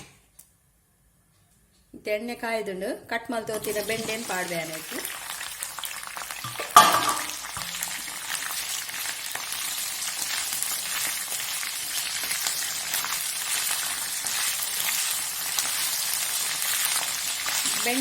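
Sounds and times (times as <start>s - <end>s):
okra sizzling in hot oil: 3.5s - 18.0s.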